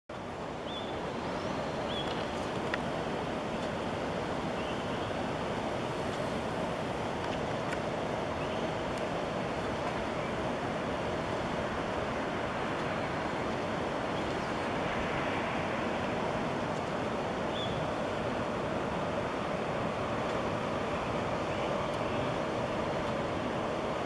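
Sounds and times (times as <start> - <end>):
city traffic roar: 0.1 - 24.0
faint steady hum: 0.1 - 24.0.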